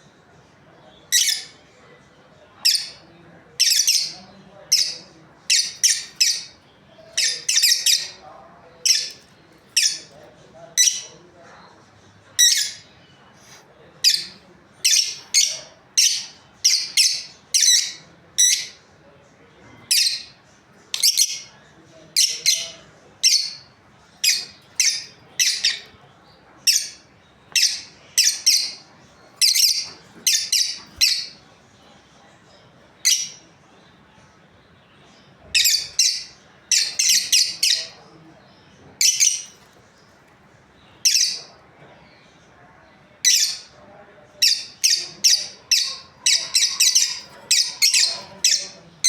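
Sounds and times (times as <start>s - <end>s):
lovebirds chirping: 0.7s - 18.9s, 19.6s - 49.0s.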